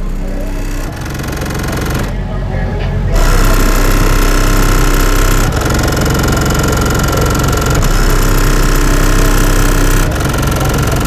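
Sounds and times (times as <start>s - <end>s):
loud bass-heavy music from subwoofer: 0.0s - 11.0s.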